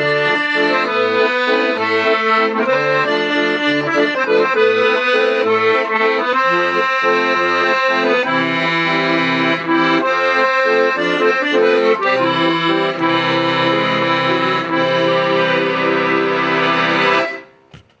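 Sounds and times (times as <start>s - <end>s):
accordion melody: 0.0s - 17.7s.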